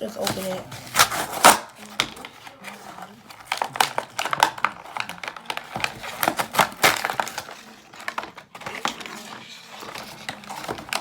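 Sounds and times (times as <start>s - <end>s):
packaging crinkling and tearing: 0.2s - 11.0s.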